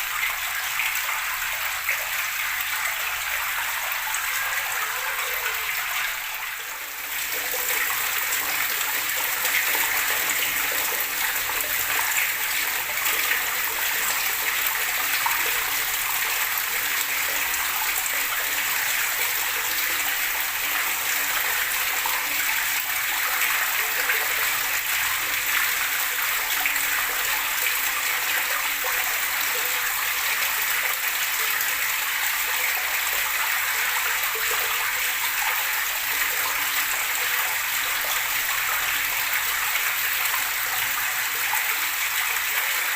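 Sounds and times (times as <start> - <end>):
water gurgling and splashing: 0.0 - 42.9.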